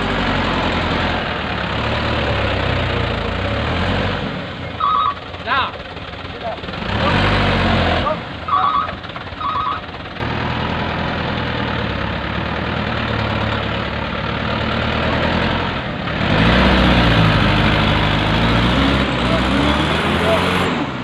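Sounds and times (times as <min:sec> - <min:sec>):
diesel truck engines revving: 0:00.0 - 0:21.0.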